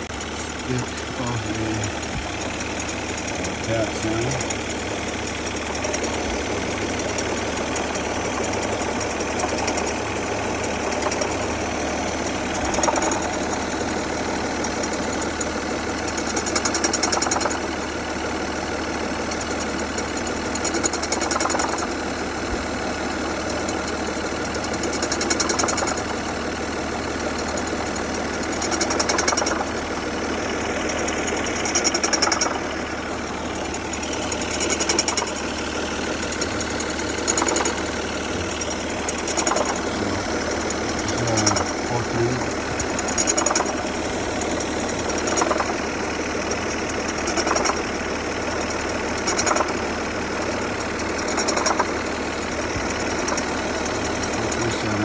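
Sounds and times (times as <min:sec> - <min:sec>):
car engine idling: 0:00.0 - 0:55.0
pulsing compressor noise: 0:00.0 - 0:55.0.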